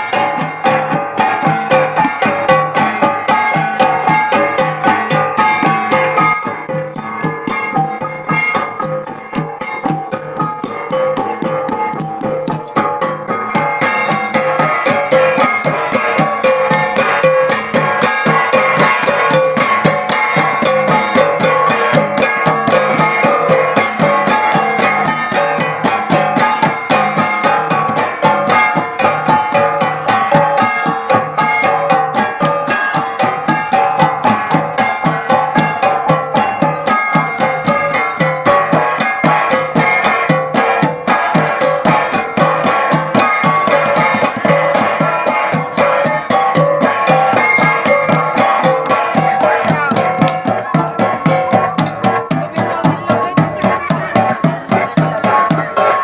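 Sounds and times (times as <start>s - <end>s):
bronze gongs beaten in rhythm: 0.0s - 56.0s.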